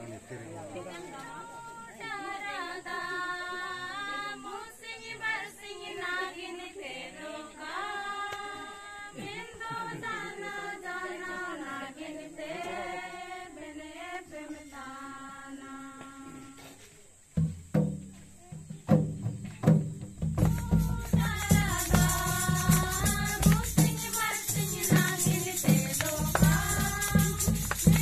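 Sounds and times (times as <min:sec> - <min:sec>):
women and girls singing in unison: 0:00.8 - 0:16.8, 0:20.3 - 0:28.0.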